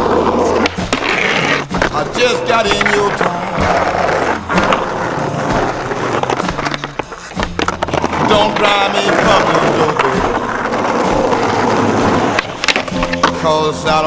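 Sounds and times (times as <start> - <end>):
skateboard wheels rolling on asphalt: 0.0 - 2.0, 2.7 - 13.4
skateboard clacks and knocks: 0.0 - 13.5
blues song: 0.0 - 14.0.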